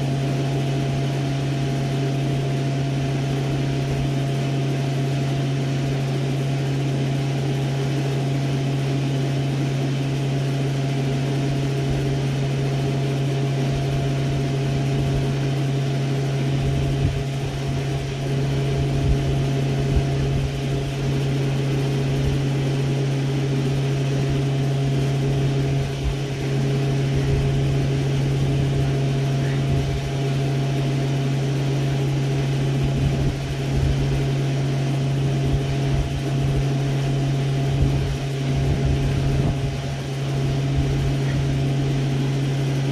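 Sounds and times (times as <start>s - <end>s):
machinery humming: 0.0s - 42.9s.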